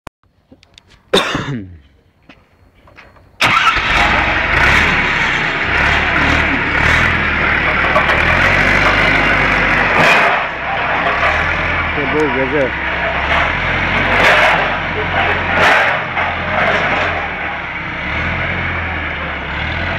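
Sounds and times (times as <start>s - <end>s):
forklift engine running: 2.8s - 19.9s.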